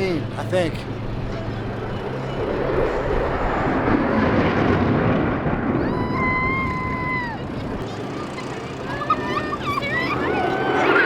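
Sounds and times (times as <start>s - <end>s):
jet roar flying past: 1.8s - 11.0s.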